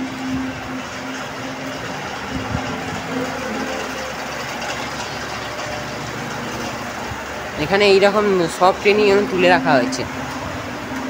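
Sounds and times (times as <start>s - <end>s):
broad even noise: 0.0s - 11.0s
steady mechanical hum: 0.0s - 11.0s.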